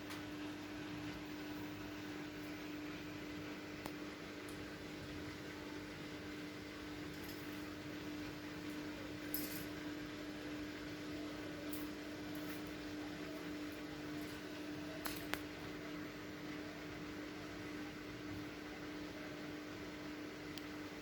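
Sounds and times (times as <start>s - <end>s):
washing machine humming: 0.0s - 21.0s.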